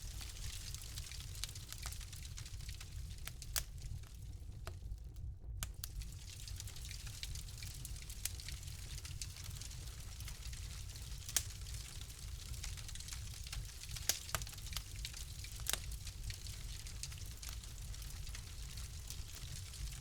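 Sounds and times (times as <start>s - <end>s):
fire crackling in a fireplace: 0.0s - 20.0s
sharp fire pops and snaps: 0.0s - 20.0s.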